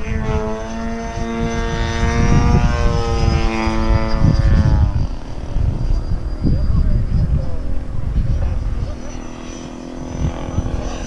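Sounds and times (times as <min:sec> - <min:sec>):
loud low rumble: 0:00.0 - 0:09.0
model airplane engine droning: 0:00.0 - 0:11.0.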